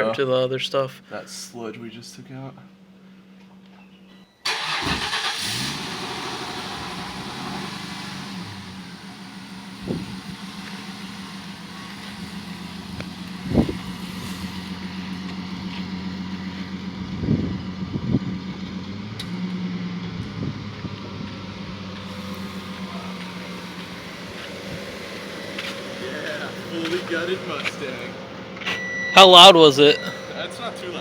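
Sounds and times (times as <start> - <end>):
car engine idling: 4.5 - 31.0.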